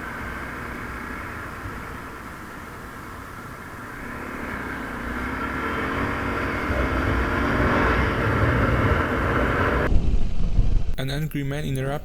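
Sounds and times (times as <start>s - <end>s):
vehicle engine running: 0.0s - 9.9s
road noise: 0.0s - 10.0s.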